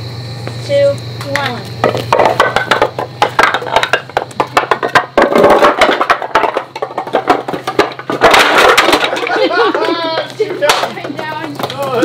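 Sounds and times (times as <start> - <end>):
wooden blocks clattering on concrete: 1.8 - 12.0.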